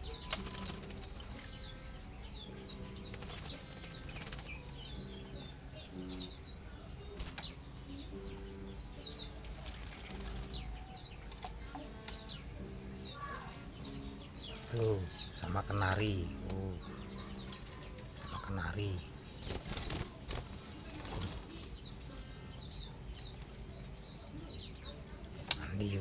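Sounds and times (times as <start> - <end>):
wings flapping: 0.0 - 6.5, 7.1 - 8.4, 9.0 - 12.3, 13.2 - 26.0
songbirds chirping: 0.0 - 26.0.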